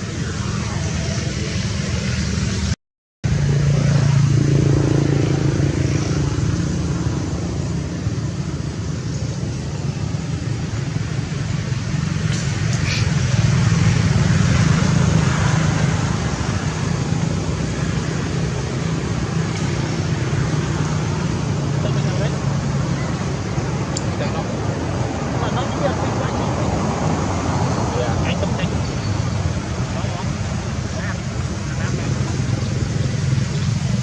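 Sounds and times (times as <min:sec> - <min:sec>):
traffic noise: 0:00.0 - 0:34.0
vehicle engine humming: 0:00.0 - 0:34.0.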